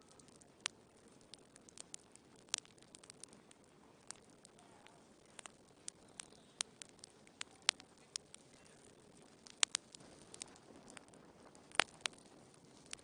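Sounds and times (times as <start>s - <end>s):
faint steady hiss: 0.0s - 13.0s
wood fire crackling: 0.0s - 13.0s.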